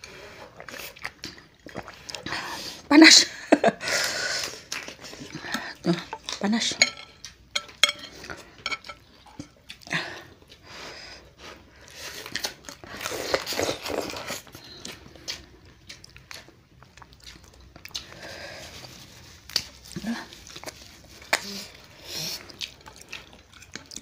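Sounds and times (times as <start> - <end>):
chewing: 0.0 - 2.4, 4.4 - 10.8, 11.4 - 24.0.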